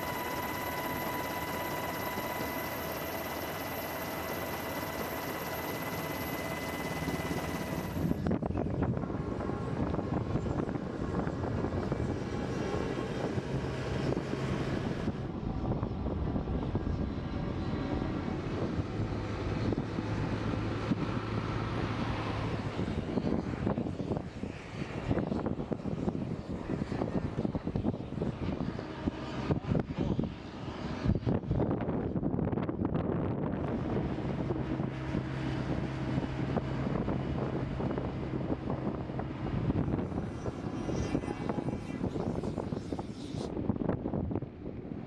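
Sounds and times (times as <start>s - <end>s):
aircraft engines running: 0.0s - 45.0s
wind on microphone: 0.0s - 45.0s.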